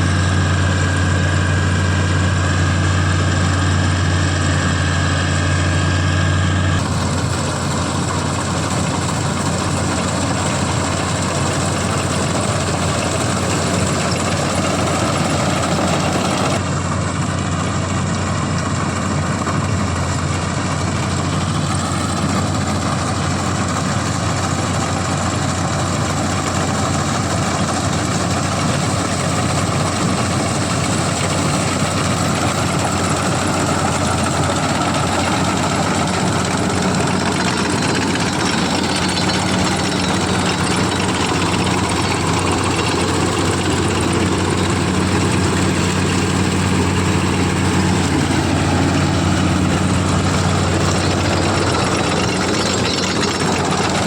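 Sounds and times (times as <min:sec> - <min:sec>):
diesel engine running: 0:00.0 - 0:54.0
machinery noise: 0:00.0 - 0:54.0.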